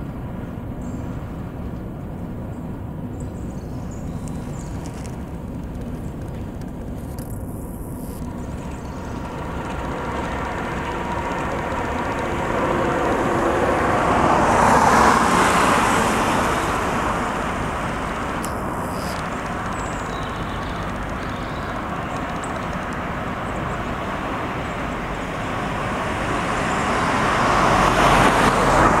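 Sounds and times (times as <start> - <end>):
diesel locomotive engines passing: 0.0 - 29.0.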